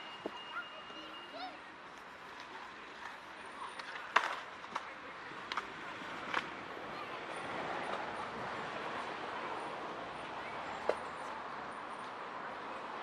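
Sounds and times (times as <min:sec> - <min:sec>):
faint voices of passers-by: 0:00.0 - 0:13.0.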